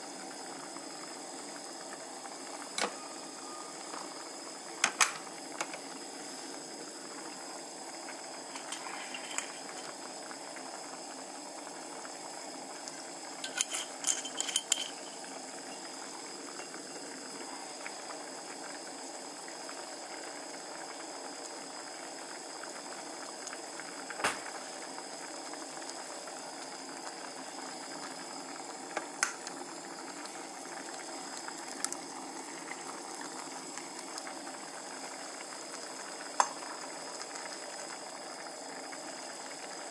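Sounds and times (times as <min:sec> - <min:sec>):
broth bubbling in saucepan: 0:00.0 - 0:39.9.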